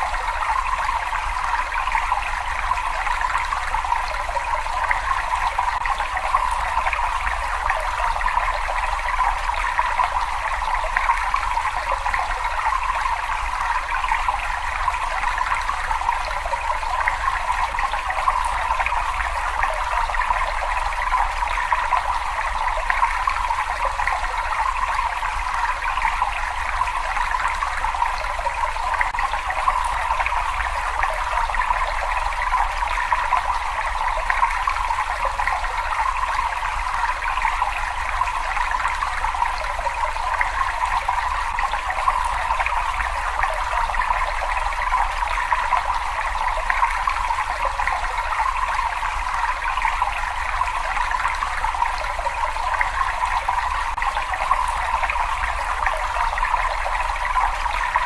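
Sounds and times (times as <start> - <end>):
water running in a cave: 0.0 - 58.0.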